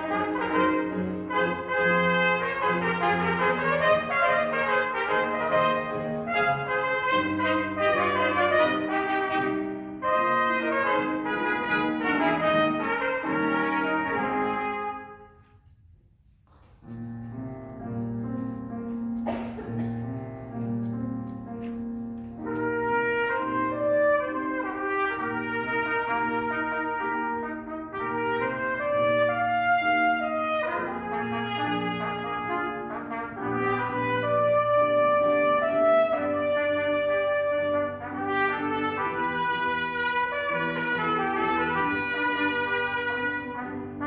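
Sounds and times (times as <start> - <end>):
trumpet duet: 0.0 - 15.6, 21.6 - 44.0
piano accompaniment: 0.0 - 44.0.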